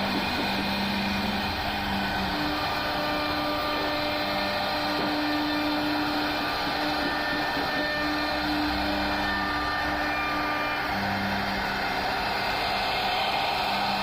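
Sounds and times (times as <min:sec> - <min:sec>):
router cutting wood: 0:00.0 - 0:14.0
router spindle motor whine: 0:00.0 - 0:14.0.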